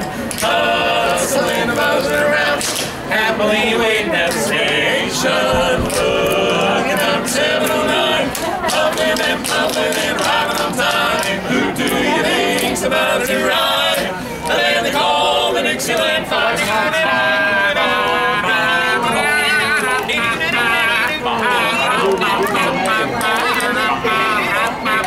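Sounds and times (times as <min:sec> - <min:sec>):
men singing in harmony: 0:00.0 - 0:25.0.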